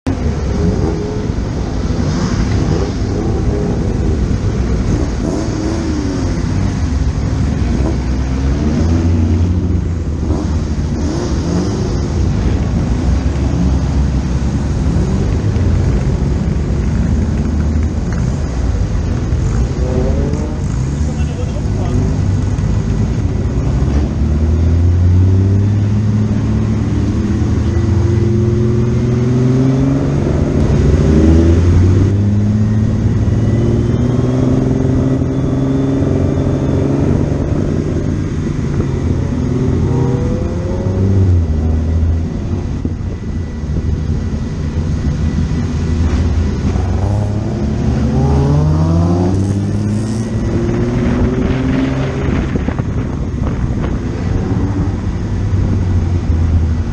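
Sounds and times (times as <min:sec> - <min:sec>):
race car engine accelerating: 0:00.4 - 0:56.7.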